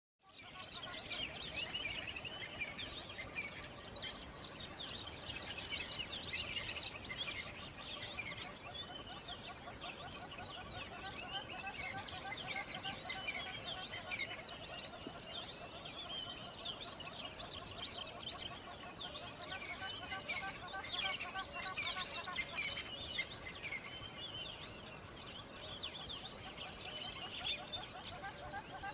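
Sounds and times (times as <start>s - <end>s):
flock of birds chirping: 0.2s - 28.9s.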